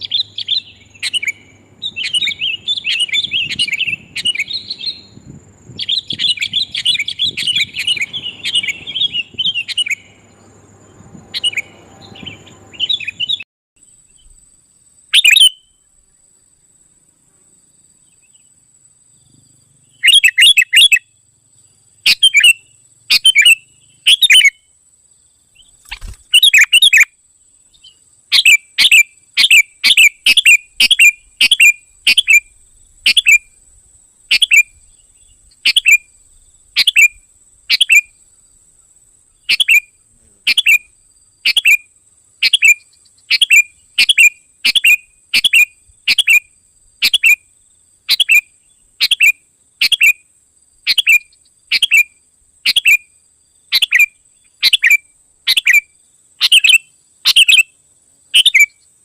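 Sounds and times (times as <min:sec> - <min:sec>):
sharp bird chirps: 0:00.0 - 0:14.4, 0:15.1 - 0:16.2, 0:19.3 - 0:24.8, 0:25.5 - 0:33.6, 0:34.3 - 0:50.2, 0:50.8 - 0:57.7, 0:58.4 - 0:58.9.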